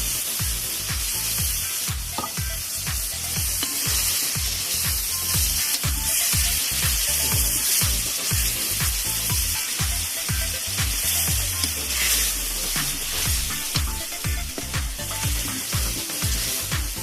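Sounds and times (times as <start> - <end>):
music with bass beat: 0.0 - 17.0
seafood sizzling in hot oil: 0.0 - 17.0.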